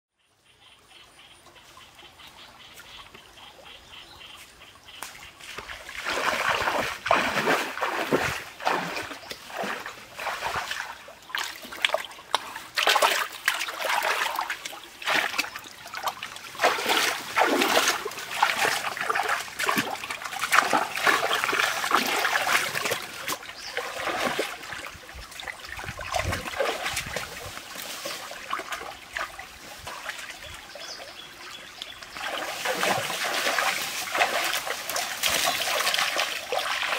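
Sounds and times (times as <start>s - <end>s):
splashing in shallow water: 4.9s - 36.9s.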